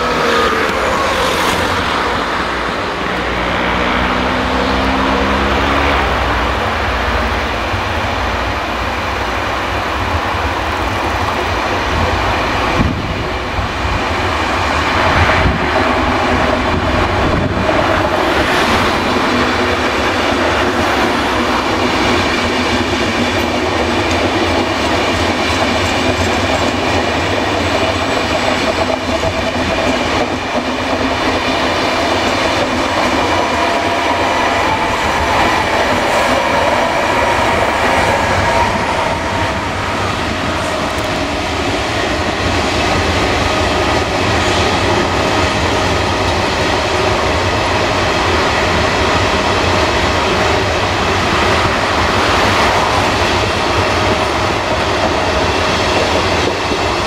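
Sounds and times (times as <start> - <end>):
train wheels rumbling with clickety-clack: 0.0 - 57.0.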